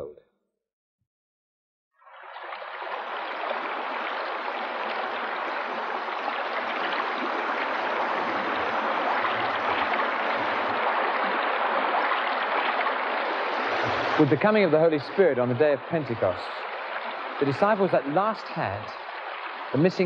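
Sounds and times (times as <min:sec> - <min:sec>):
stream splashing over rocks: 0:02.1 - 0:20.0.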